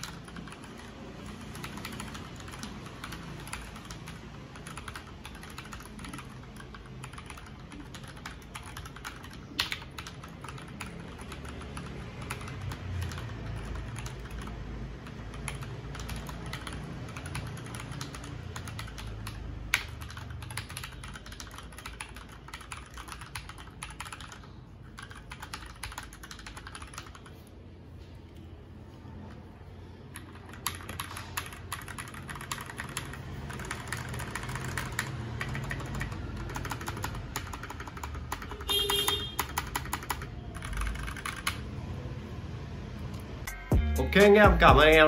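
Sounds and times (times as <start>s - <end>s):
mechanical keyboard typing: 0.0s - 27.6s, 29.1s - 42.0s.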